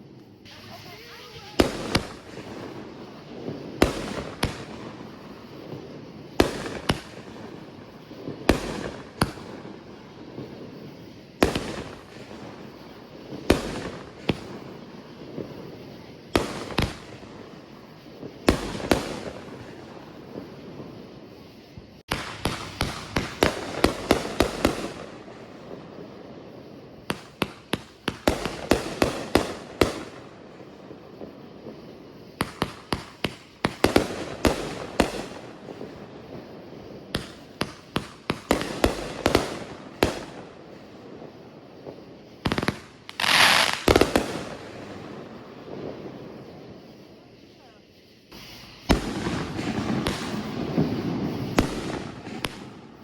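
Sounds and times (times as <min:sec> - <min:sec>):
fireworks cracking: 0:00.0 - 0:53.0
loud hissing firework burst: 0:00.0 - 0:53.0.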